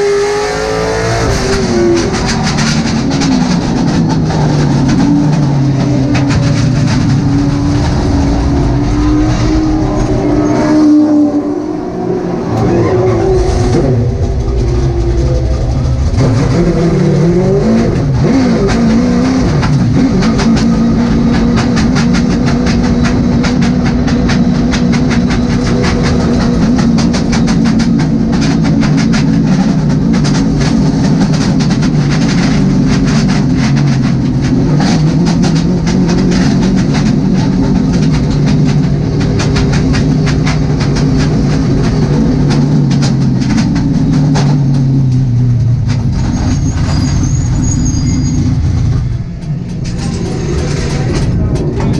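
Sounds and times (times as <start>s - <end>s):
car engine running at low revs: 0.0s - 46.2s
constant clicking rattle: 1.5s - 8.5s, 13.4s - 51.9s.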